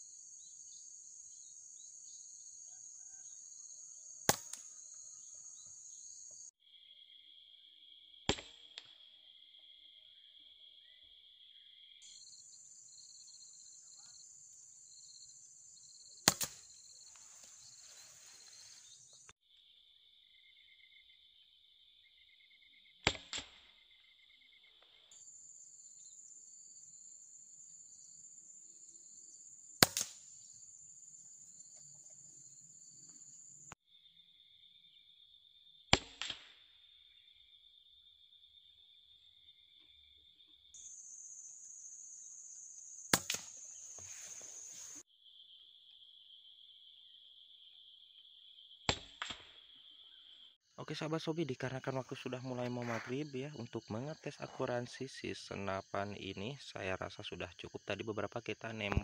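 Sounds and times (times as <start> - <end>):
insect chirring: 0.0 - 23.0, 23.6 - 35.9, 36.8 - 59.0.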